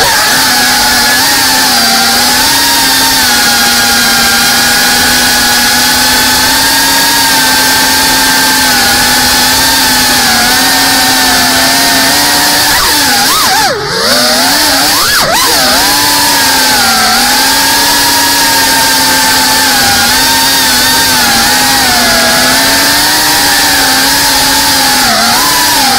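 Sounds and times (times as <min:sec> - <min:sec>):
drone motors whining: 0:00.0 - 0:25.9.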